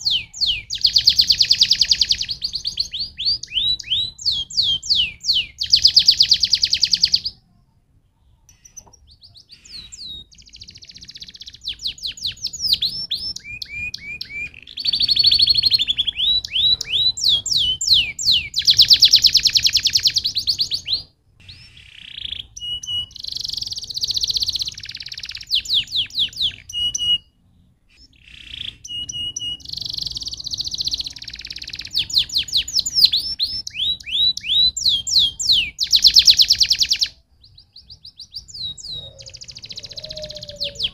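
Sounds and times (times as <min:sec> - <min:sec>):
canary singing trills: 0:00.0 - 0:07.5, 0:08.1 - 0:40.9.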